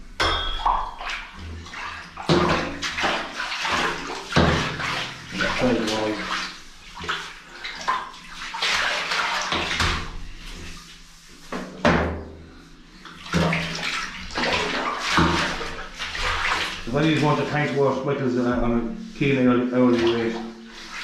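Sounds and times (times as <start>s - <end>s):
water swishing in metal tank: 0.0s - 21.0s.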